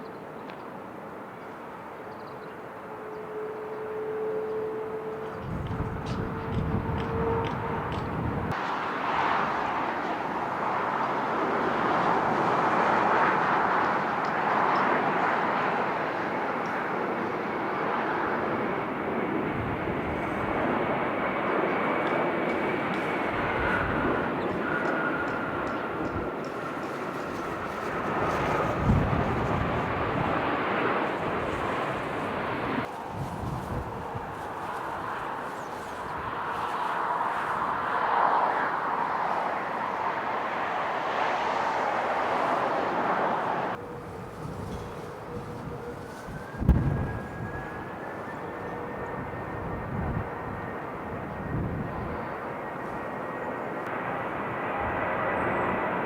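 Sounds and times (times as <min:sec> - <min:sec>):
jet engine rushing and whining: 0:02.8 - 0:56.0.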